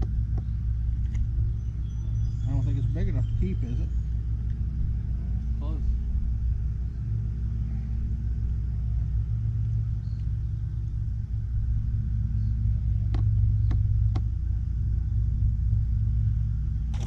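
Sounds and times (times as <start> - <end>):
motor humming and rumbling: 0.0 - 17.0.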